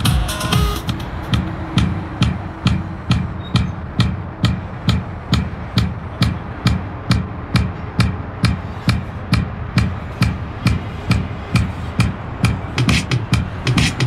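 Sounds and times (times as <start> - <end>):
steady drum beat: 0.0 - 14.0.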